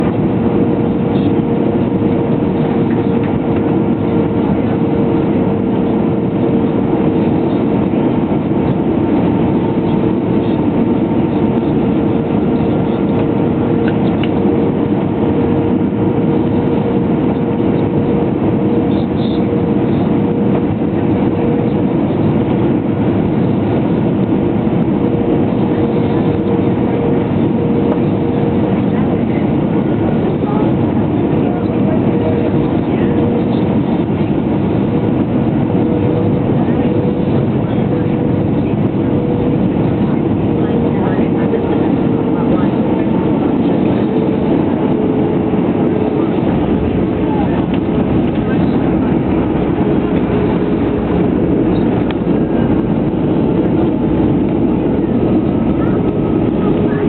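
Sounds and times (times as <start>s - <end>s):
airliner cabin engine drone: 0.0s - 57.0s.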